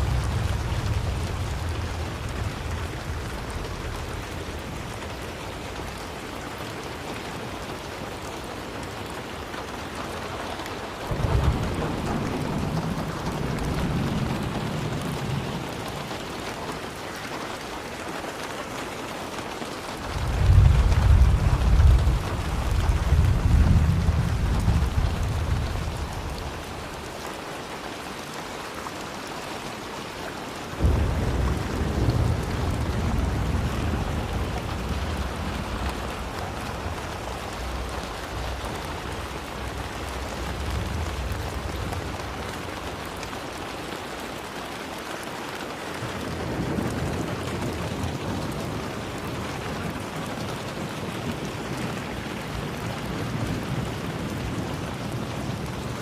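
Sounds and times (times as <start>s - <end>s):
thunder rumbling: 0.0s - 17.7s, 19.9s - 27.2s, 30.7s - 44.8s, 45.8s - 56.0s
steady rain falling: 0.0s - 56.0s.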